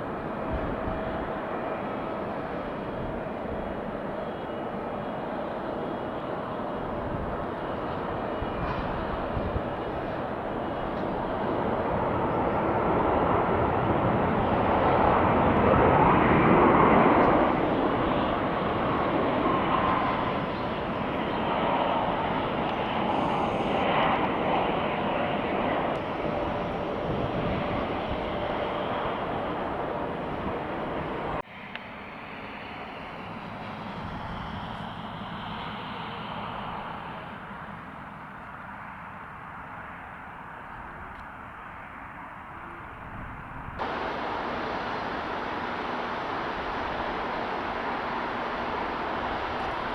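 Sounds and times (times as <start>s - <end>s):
jet airliner engines passing: 0.0s - 49.9s.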